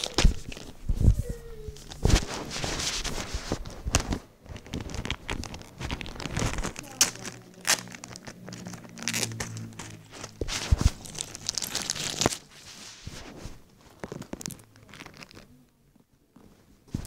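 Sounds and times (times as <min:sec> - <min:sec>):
plastic packet crinkling and tearing: 0:00.0 - 0:00.8, 0:01.7 - 0:15.8.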